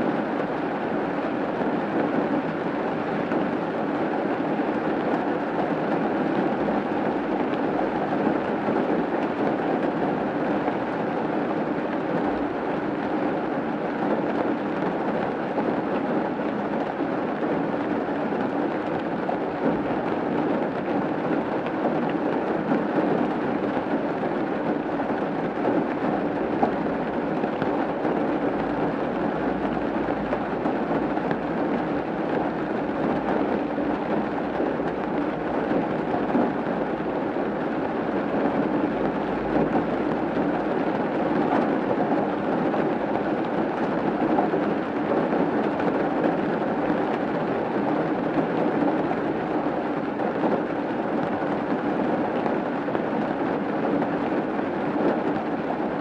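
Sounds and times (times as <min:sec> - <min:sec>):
rain on a roof: 0:00.0 - 0:56.0.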